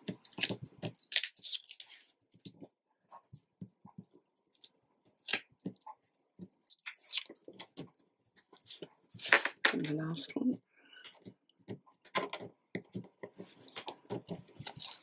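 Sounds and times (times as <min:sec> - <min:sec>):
fingernail clicks and scratches: 0:00.0 - 0:10.1, 0:10.9 - 0:15.0.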